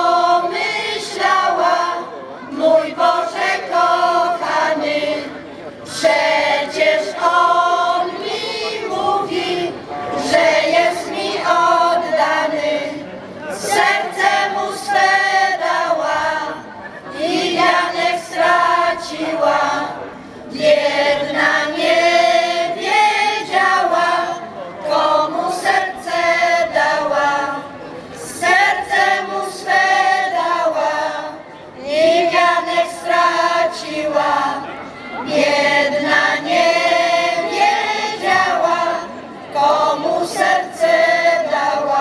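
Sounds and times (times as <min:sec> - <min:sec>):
women's choir singing a cappella: 0:00.0 - 0:42.0.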